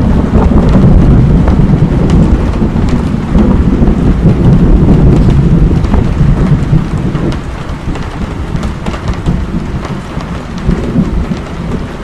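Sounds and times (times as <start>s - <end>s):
low rumble of thunder: 0.0s - 12.0s
steady rain: 0.0s - 12.0s.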